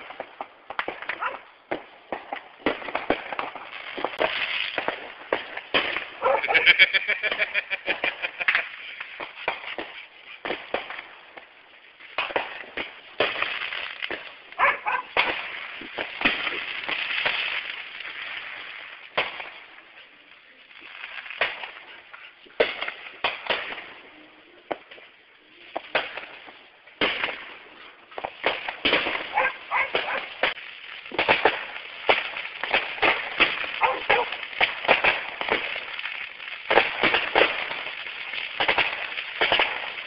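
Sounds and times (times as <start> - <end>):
fireworks popping and crackling: 0.0 - 40.0.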